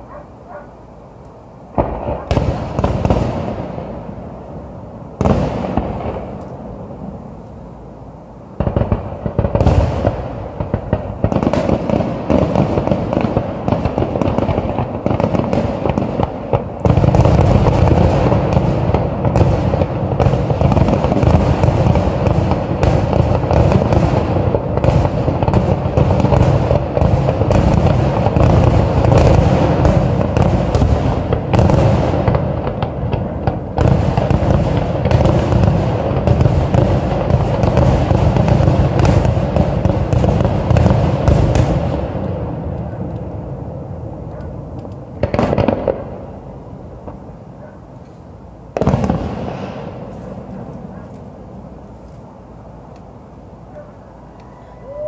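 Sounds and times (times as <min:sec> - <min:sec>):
fireworks launching and bursting: 0:01.7 - 0:07.4, 0:08.5 - 0:47.4, 0:48.7 - 0:52.4.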